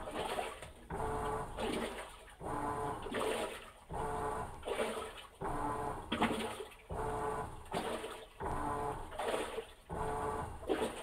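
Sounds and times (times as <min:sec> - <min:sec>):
washing machine motor humming: 0:00.0 - 0:11.0
water swishing: 0:00.0 - 0:11.0.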